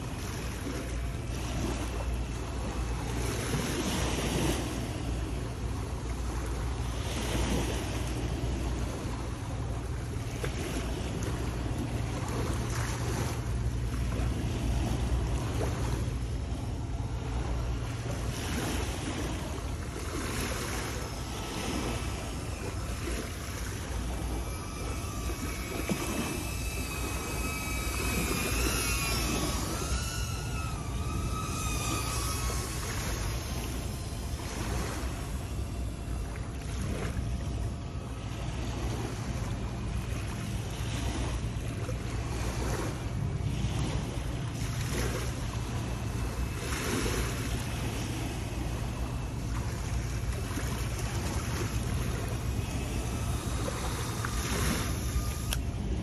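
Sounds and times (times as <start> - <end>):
drone motors whining: 0.0 - 56.0
sea waves washing against rocks: 0.0 - 56.0
wind rumbling on microphone: 0.0 - 56.0.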